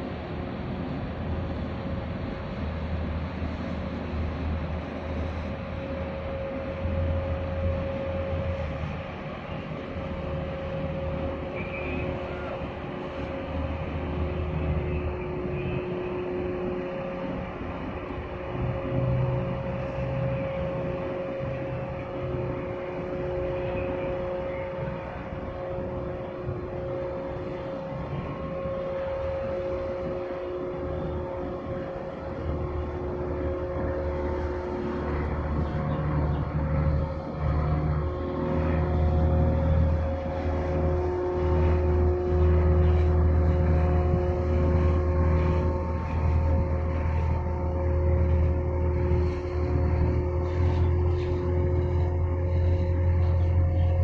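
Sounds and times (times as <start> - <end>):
ship engine low rumble: 0.0 - 54.0
steady humming tones: 0.0 - 54.0.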